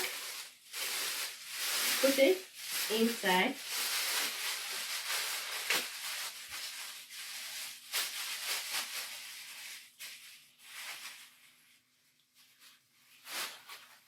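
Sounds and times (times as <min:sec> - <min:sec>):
plastic bag rustling and crinkling: 0:00.0 - 0:14.0.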